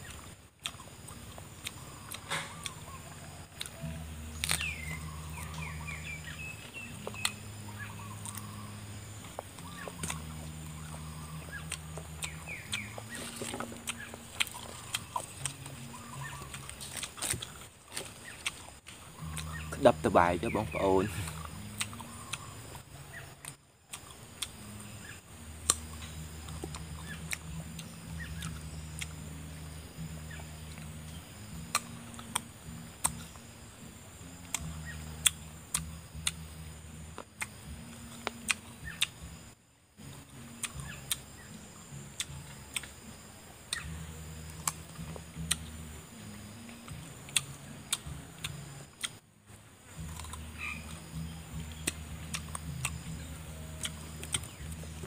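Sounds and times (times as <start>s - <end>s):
person chewing: 0.0s - 7.4s, 8.0s - 24.8s, 25.6s - 29.6s, 31.6s - 33.4s, 34.4s - 36.5s, 37.1s - 39.2s, 40.0s - 41.3s, 42.2s - 43.0s, 43.7s - 45.7s, 46.4s - 49.2s, 50.0s - 55.0s
low hum: 0.0s - 55.0s.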